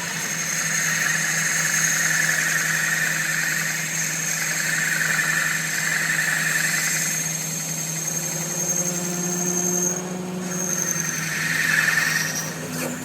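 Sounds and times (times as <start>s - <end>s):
high machine whine: 0.0s - 13.0s.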